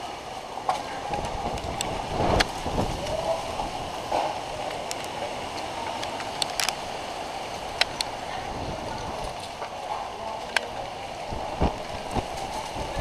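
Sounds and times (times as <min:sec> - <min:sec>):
strong wind gusting on microphone: 0:00.5 - 0:09.5, 0:10.8 - 0:13.0.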